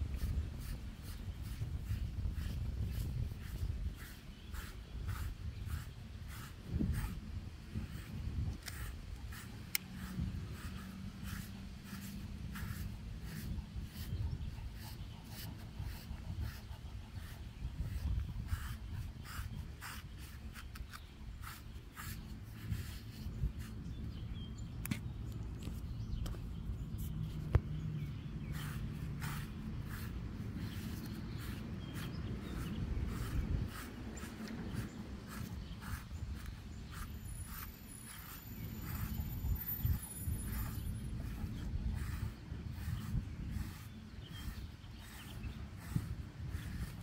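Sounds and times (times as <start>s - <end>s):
brush scraping through dog coat: 0.0s - 24.2s, 27.0s - 47.0s.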